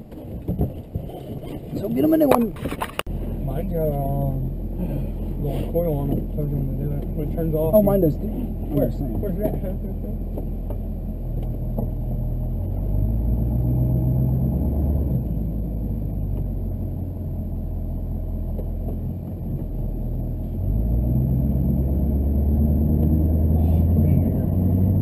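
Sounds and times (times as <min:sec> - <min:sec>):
pickup engine and road drone: 0:00.0 - 0:25.0.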